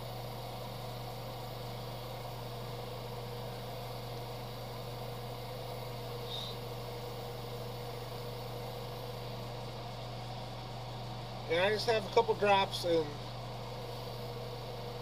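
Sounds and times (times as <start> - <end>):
motor equipment hum and hiss: 0.0 - 15.0.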